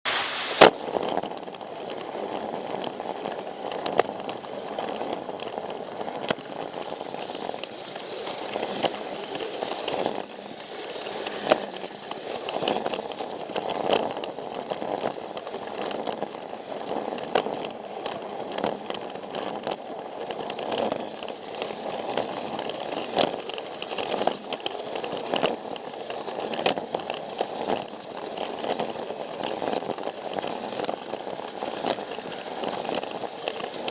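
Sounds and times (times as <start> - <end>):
toy train motor whirring: 0.2 - 33.9
wheels clicking over track joints: 0.4 - 33.9.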